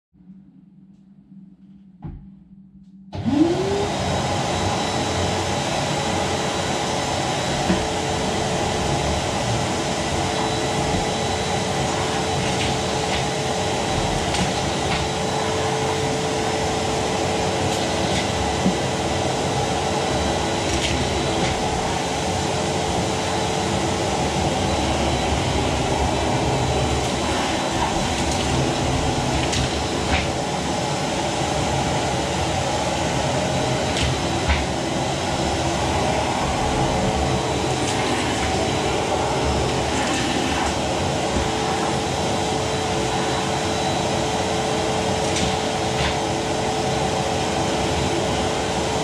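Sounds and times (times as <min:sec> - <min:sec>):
vacuum cleaner motor running: 0:03.1 - 0:49.0.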